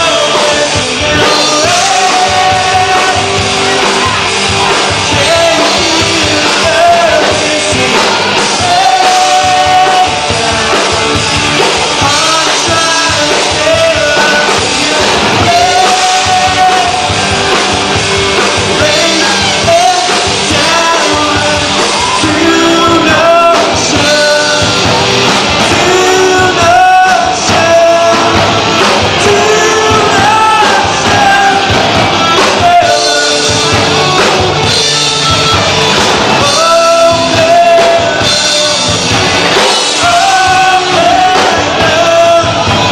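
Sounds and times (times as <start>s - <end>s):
rock song with singing: 0.0s - 42.9s.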